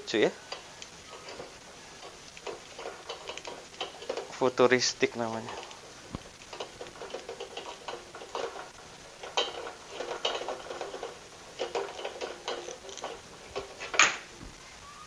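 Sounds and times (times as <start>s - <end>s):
gas hose clicking and rubbing: 0.0s - 14.3s.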